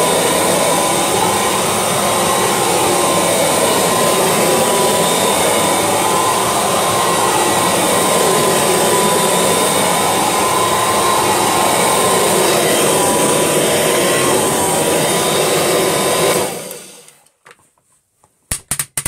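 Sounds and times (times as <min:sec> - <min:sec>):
upright vacuum cleaner running: 0:00.0 - 0:17.3.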